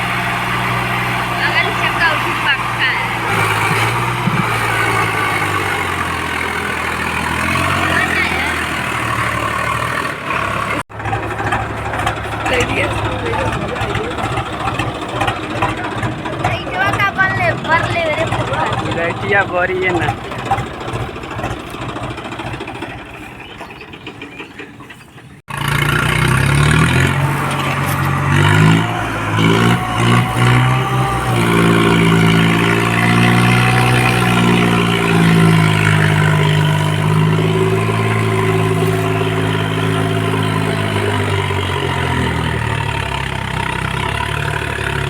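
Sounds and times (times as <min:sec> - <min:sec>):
tractor diesel engine revving: 0:00.0 - 0:45.0.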